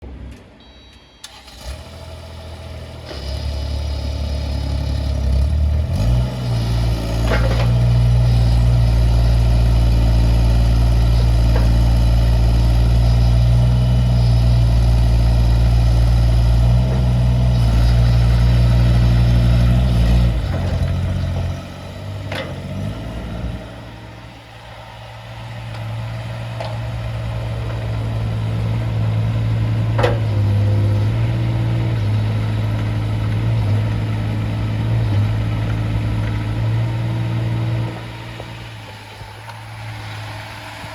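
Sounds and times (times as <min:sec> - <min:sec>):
diesel engine running: 0:01.2 - 0:40.9.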